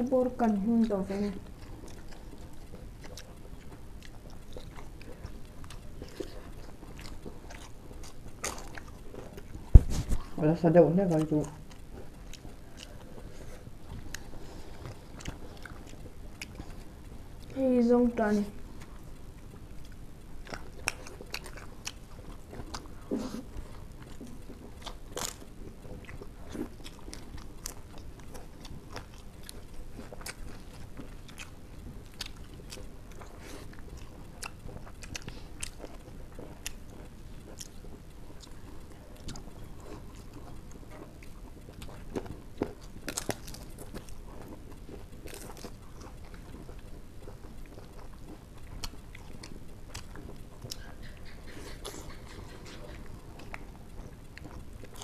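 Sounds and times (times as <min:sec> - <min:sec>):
faint background hum: 0:00.0 - 0:55.0
wet chewing smacks: 0:00.8 - 0:10.4, 0:11.1 - 0:17.6, 0:18.3 - 0:55.0.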